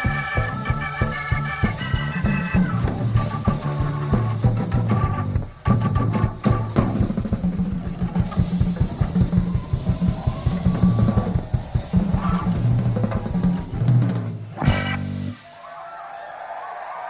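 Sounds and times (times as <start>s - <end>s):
live rock band playing: 0.0s - 15.5s
crowd noise: 0.0s - 17.0s.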